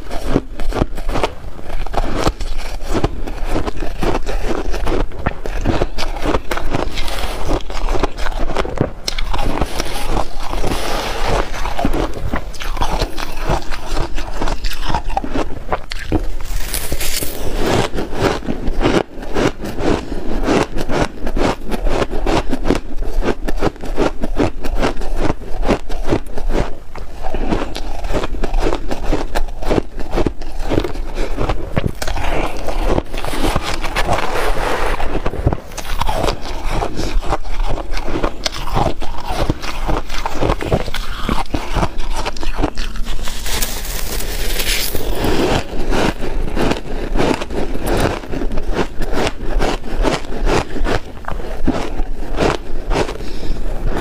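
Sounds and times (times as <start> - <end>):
ice being bitten and chewed: 0.0 - 54.0
spoon scraping shaved ice: 0.1 - 18.4, 27.3 - 54.0.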